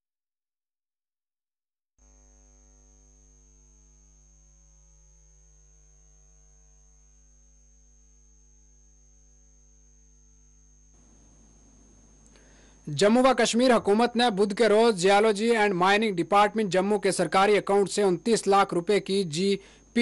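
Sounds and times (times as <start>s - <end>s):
electrical mains hum: 2.0s - 20.0s.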